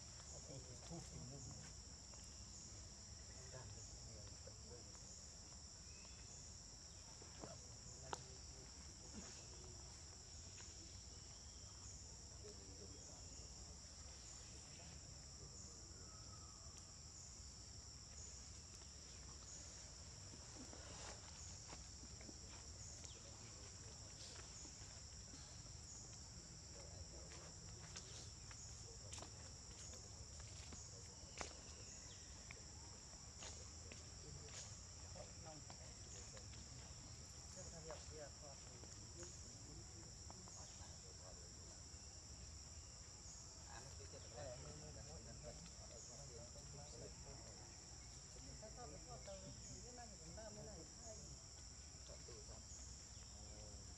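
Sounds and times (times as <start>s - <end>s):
insect chorus buzzing: 0.0s - 53.9s.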